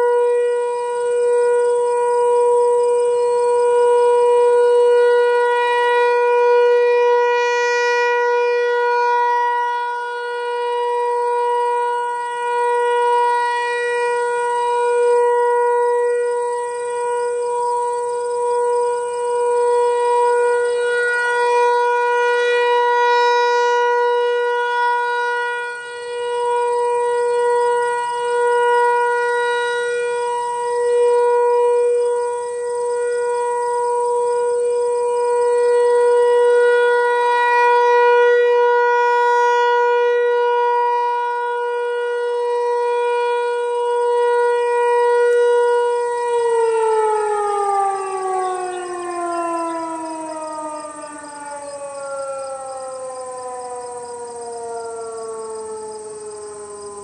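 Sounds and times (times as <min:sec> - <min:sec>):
distant rotating warning siren: 0:00.0 - 0:57.0.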